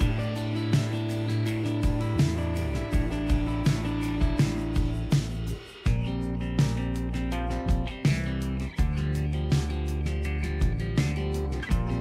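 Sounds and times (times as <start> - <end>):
guitar instrumental with beat: 0.0 - 12.0.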